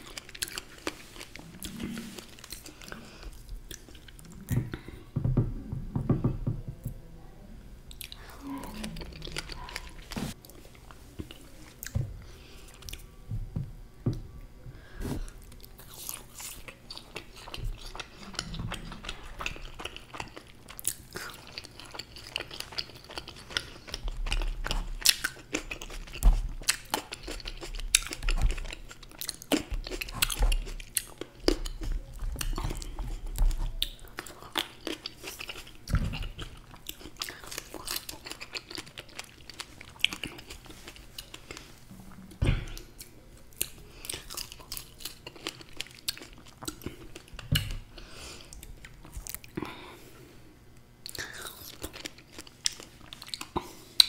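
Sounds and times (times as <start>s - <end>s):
chewing and biting food: 0.0s - 4.9s, 7.9s - 12.0s, 15.3s - 41.8s, 42.6s - 49.7s, 51.0s - 54.0s.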